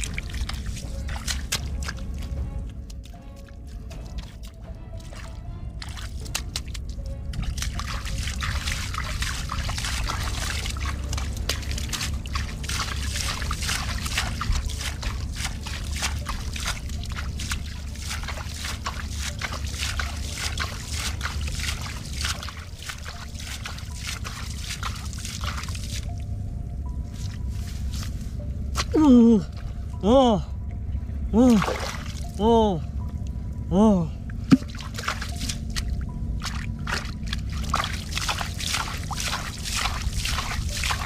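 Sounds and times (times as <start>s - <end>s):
muddy water splashing: 0.0s - 30.2s, 31.4s - 33.4s, 34.2s - 41.0s.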